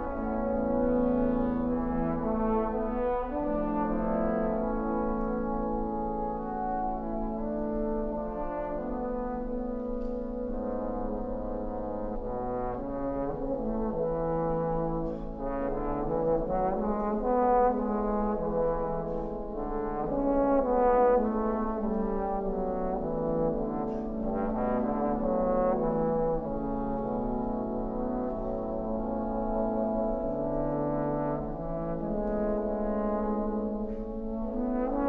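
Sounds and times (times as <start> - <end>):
trombone choir playing chords: 0.0 - 35.0.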